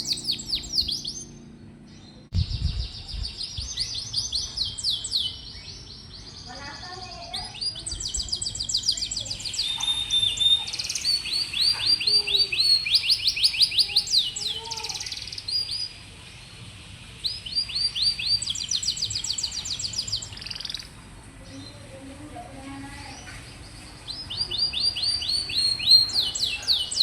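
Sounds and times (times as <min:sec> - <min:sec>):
canary singing trills: 0:00.0 - 0:16.1, 0:17.2 - 0:27.0.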